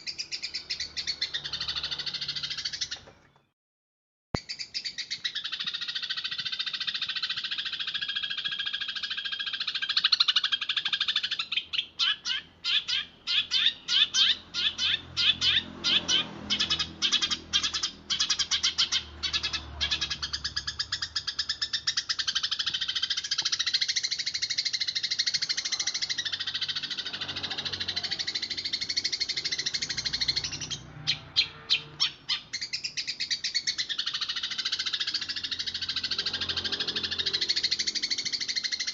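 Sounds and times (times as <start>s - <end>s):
sparrows chirping: 0.0s - 3.5s, 4.4s - 38.9s.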